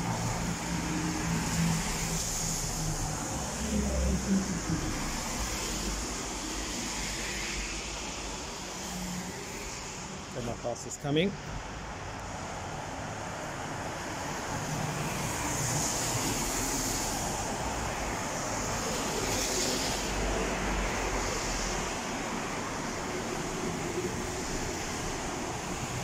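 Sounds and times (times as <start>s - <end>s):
tyres hissing on wet pavement: 0.0s - 10.7s, 11.5s - 26.0s.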